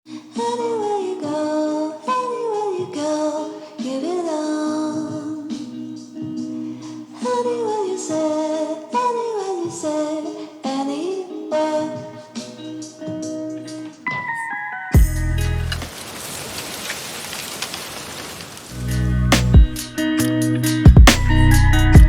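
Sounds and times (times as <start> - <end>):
music with sung melody: 0.1 - 15.8, 19.2 - 22.0.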